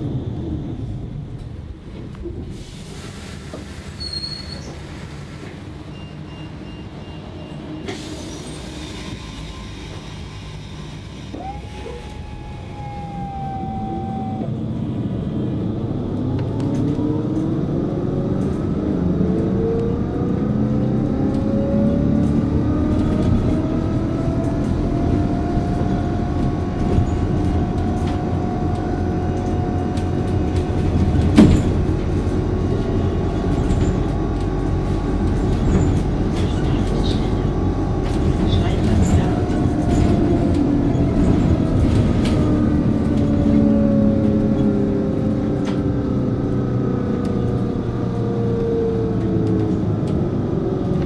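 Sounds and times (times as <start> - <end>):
bus rumble: 0.0 - 51.0.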